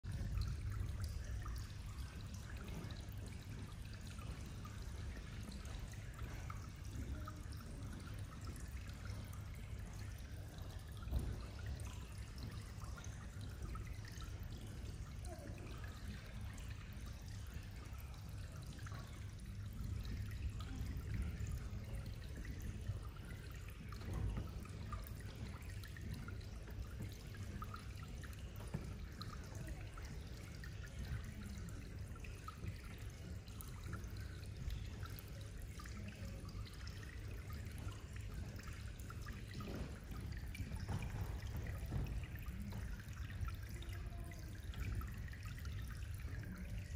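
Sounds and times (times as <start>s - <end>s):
water trickling and dripping: 0.0s - 46.9s.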